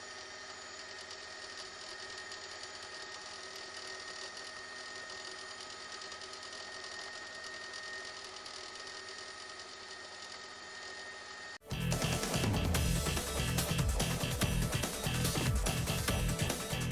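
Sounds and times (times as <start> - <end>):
helicopter running: 0.0 - 16.9.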